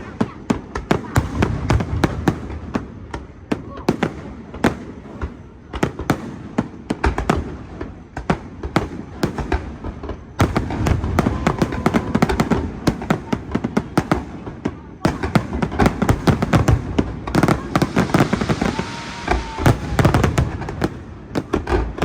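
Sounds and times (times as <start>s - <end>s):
fireworks bursts and crackling: 0.0s - 22.0s.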